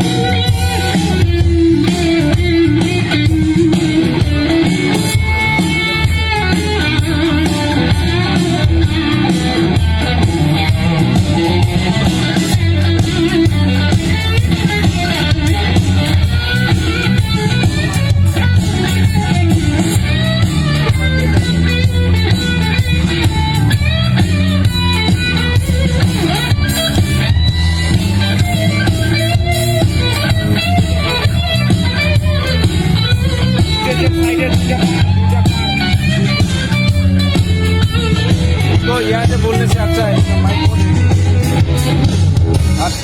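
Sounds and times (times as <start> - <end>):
blues-rock song over pa system: 0.0 - 43.0.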